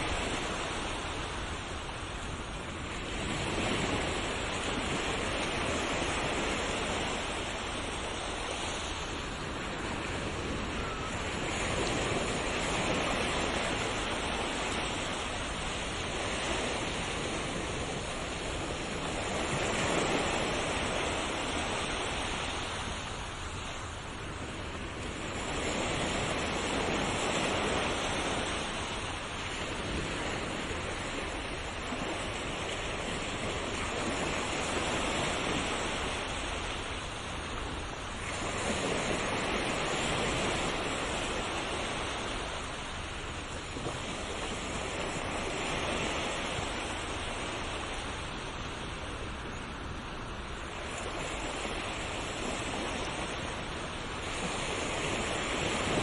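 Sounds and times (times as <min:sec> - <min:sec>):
ocean surf waves breaking: 0:00.0 - 0:56.0.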